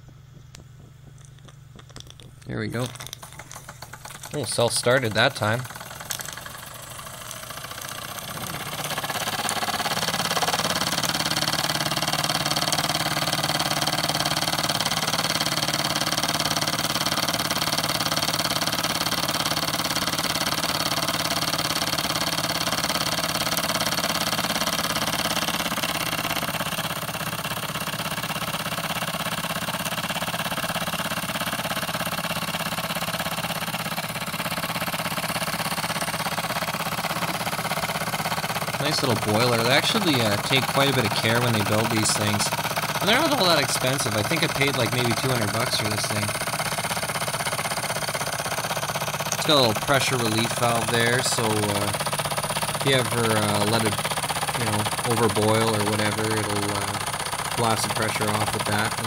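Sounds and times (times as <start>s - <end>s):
vibration rattling on ceramic tile: 0.4s - 59.0s
toy steam engine running: 0.8s - 59.0s.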